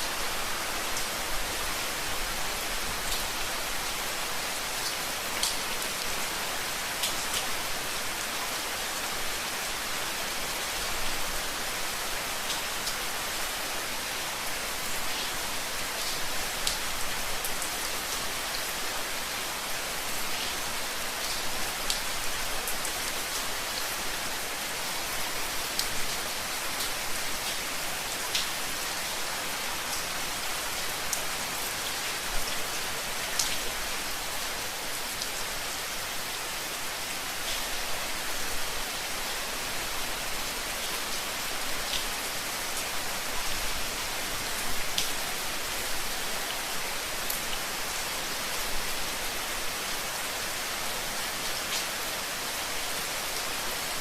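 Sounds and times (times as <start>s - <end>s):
rain hissing on a hard surface: 0.0s - 54.0s.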